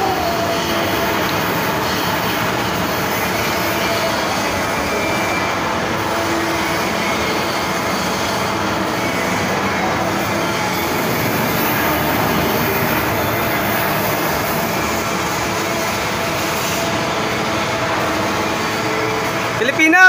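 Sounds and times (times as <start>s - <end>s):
machinery hiss and rumble: 0.0s - 20.0s.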